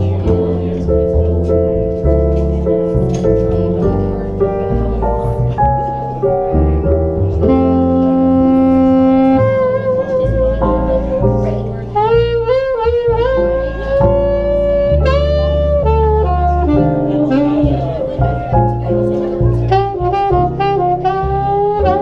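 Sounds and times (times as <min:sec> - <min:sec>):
alto saxophone melody: 0:00.0 - 0:22.0
keyboard chords: 0:00.0 - 0:22.0
upright bass: 0:00.0 - 0:22.0.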